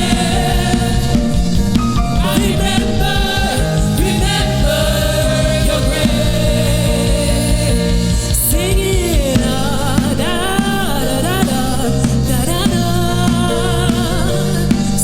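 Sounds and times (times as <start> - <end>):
keyboard and bass accompaniment: 0.0 - 15.0
solo singer: 0.0 - 15.0.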